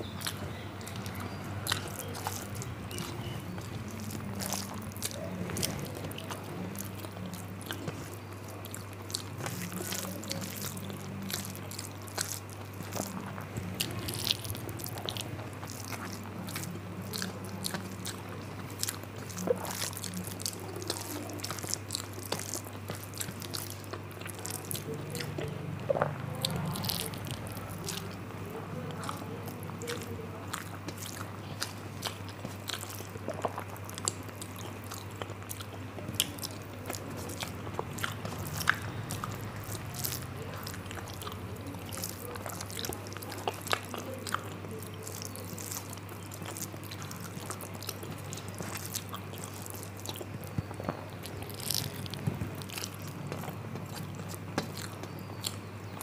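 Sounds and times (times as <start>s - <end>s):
mouth clicks and smacks: 0.0s - 56.0s
steady low hum: 0.0s - 56.0s
wet mouth chewing: 0.0s - 56.0s.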